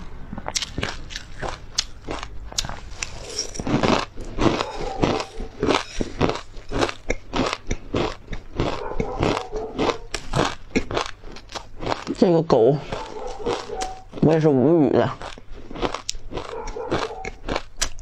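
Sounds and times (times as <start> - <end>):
crunchy chewing of a crisp: 0.0 - 18.0.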